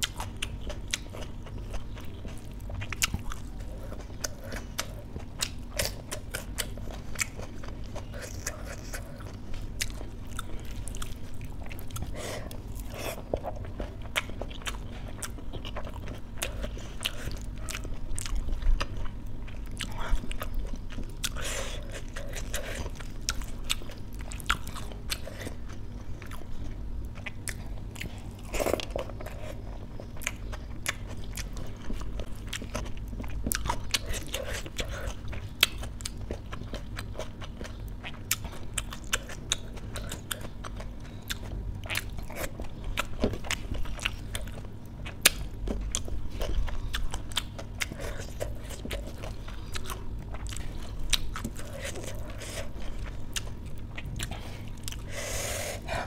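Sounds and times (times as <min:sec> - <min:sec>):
steady low hum: 0:00.0 - 0:56.0
wet chewing and mouth clicks: 0:00.0 - 0:56.0.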